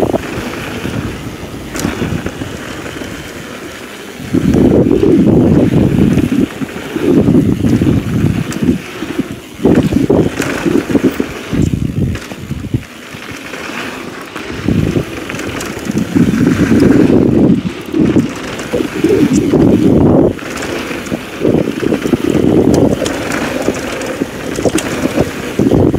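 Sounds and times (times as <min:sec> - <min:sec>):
wind buffeting microphone: 0:00.0 - 0:13.6, 0:14.3 - 0:25.9
bike rattling: 0:00.0 - 0:25.9
tyres rolling on dirt: 0:00.0 - 0:25.9.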